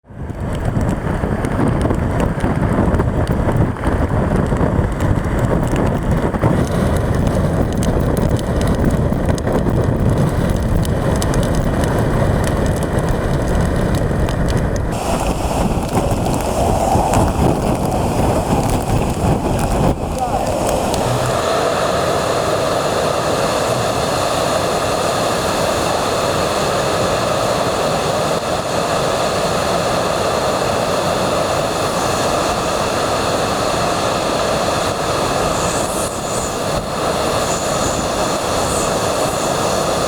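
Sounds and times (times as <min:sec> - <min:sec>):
hurricane wind blowing: 0:00.0 - 0:40.0
rain: 0:00.2 - 0:40.0.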